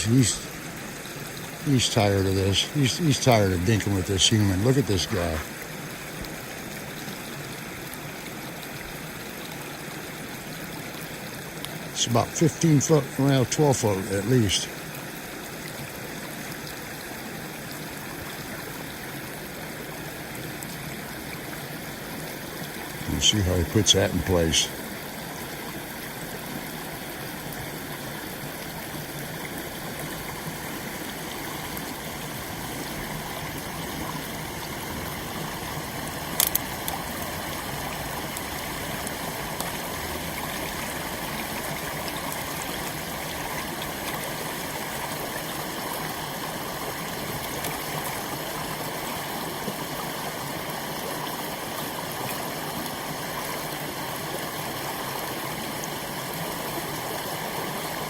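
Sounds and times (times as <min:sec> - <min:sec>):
water running through dam: 0:00.0 - 0:58.0.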